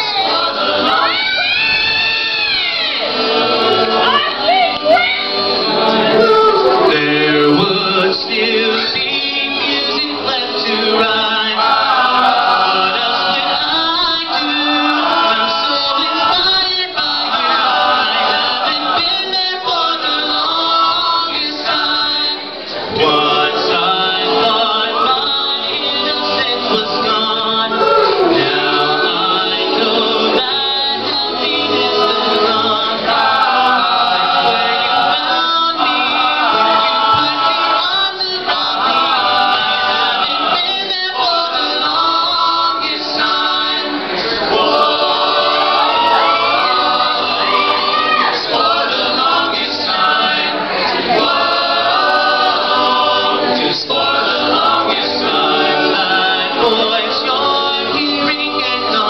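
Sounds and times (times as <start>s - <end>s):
male a cappella group singing: 0.0s - 59.0s.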